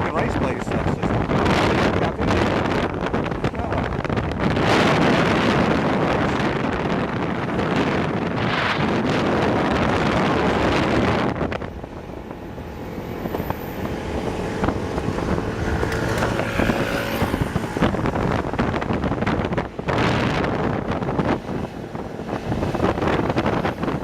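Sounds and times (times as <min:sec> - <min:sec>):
traffic: 0:00.0 - 0:24.0
wind buffeting microphone: 0:00.0 - 0:24.0
motorcycle engine: 0:00.6 - 0:24.0.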